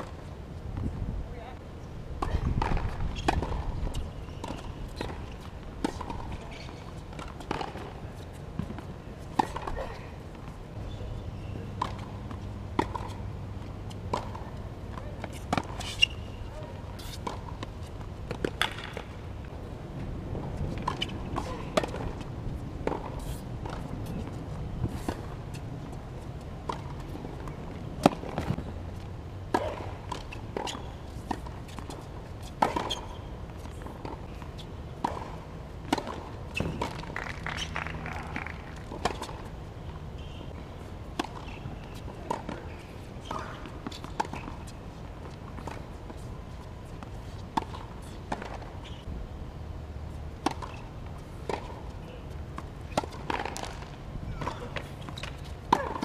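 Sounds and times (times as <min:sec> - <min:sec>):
tennis balls struck by racquets: 0:02.2 - 0:19.3, 0:19.9 - 0:25.9, 0:26.6 - 0:28.6, 0:29.4 - 0:46.3, 0:50.4 - 0:56.0
tennis balls bouncing on court: 0:02.2 - 0:49.1, 0:50.2 - 0:56.0.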